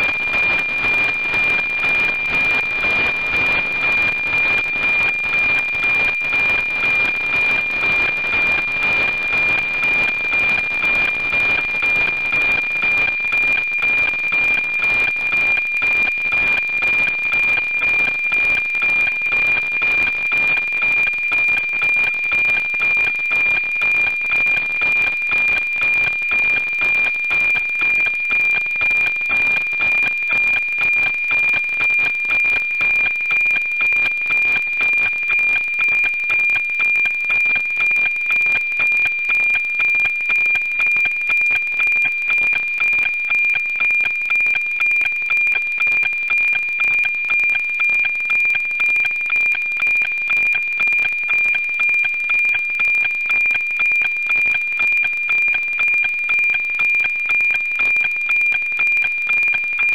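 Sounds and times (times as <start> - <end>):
pulsing high-pitched satellite tone: 0.0 - 59.9.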